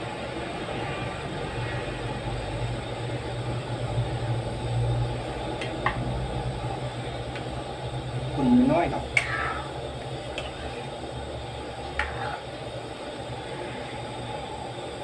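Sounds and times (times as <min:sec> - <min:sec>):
soup heating on stove: 0:00.0 - 0:15.0.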